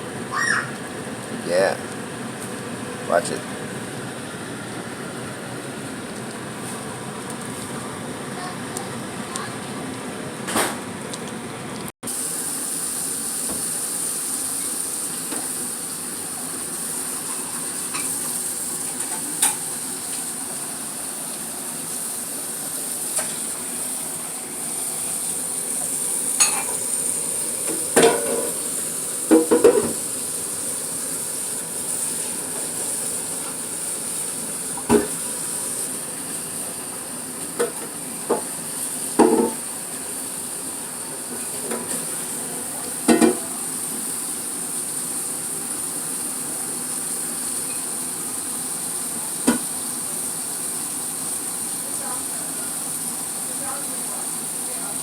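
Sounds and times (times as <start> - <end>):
sauce sizzling in a pot: 0.0 - 9.5, 12.0 - 55.0.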